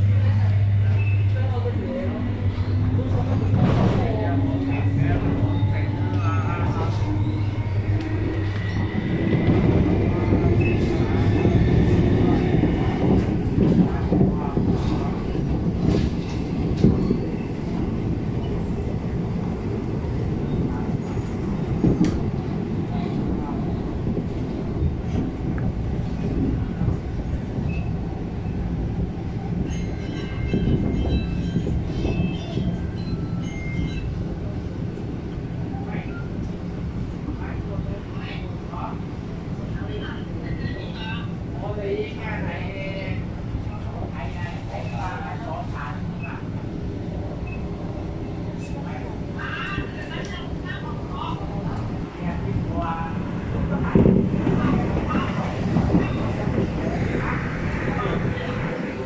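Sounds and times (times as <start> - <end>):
train low hum: 0.0 - 59.0
train wheel and rail noise: 0.0 - 59.0.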